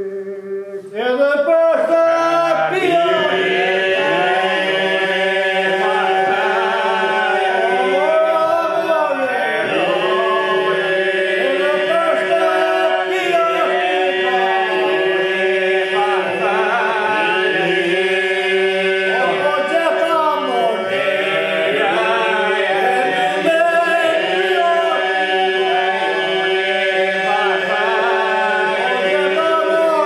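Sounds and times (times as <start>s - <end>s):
men singing polyphonic folk song: 0.0s - 30.0s.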